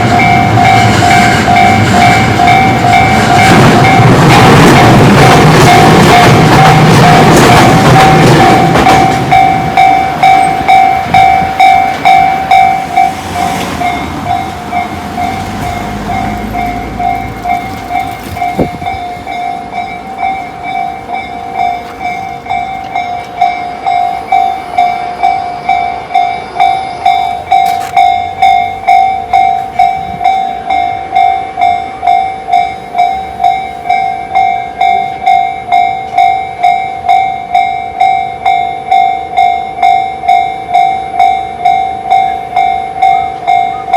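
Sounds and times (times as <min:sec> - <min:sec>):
level crossing alarm ringing: 0:00.0 - 0:43.9
passing train rumble: 0:00.0 - 0:43.9.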